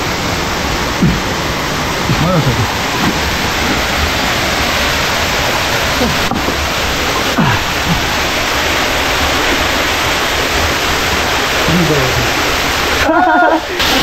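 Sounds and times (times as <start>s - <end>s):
falling water rushing: 0.0s - 14.0s.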